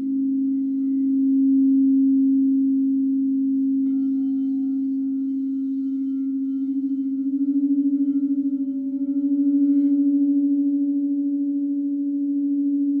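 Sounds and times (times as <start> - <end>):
crystal singing bowls ringing: 0.0 - 2.5, 3.5 - 12.9.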